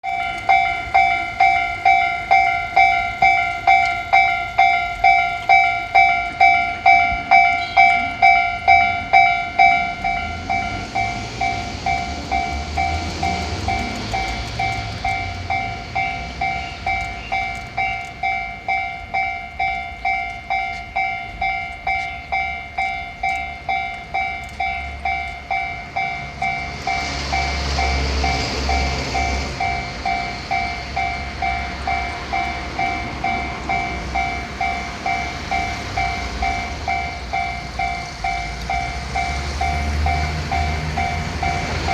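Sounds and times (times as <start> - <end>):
railroad crossing alarm ringing: 0.0 - 41.9
train passing: 0.0 - 41.9.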